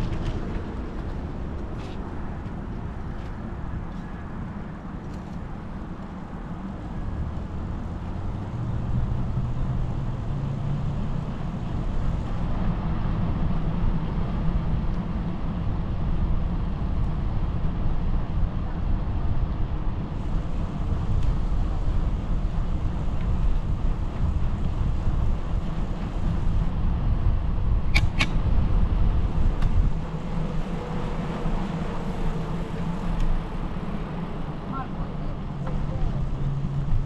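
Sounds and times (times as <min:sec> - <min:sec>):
bicycle tyre rumble on asphalt: 0:00.0 - 0:37.0
wind on microphone: 0:00.0 - 0:37.0.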